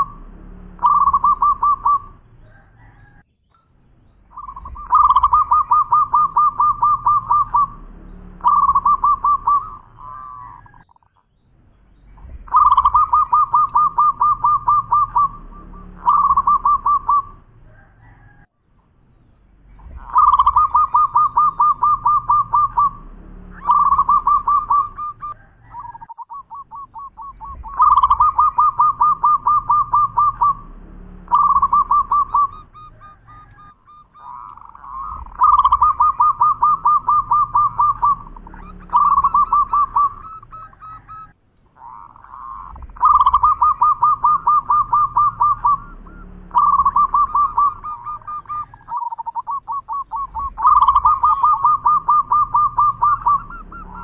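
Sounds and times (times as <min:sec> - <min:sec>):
dove cooing: 0:00.0 - 0:03.3, 0:04.1 - 0:11.2, 0:12.1 - 0:18.5, 0:19.8 - 0:54.0.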